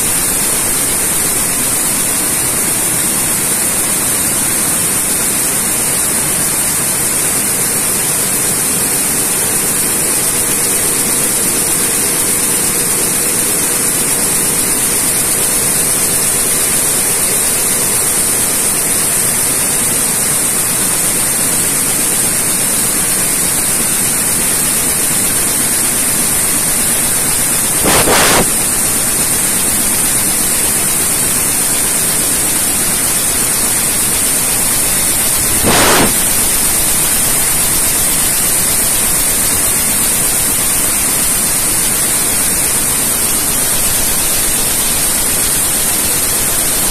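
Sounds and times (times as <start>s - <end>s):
loud burst of noise: 0.0s - 46.9s
weaving loom running: 0.0s - 46.9s.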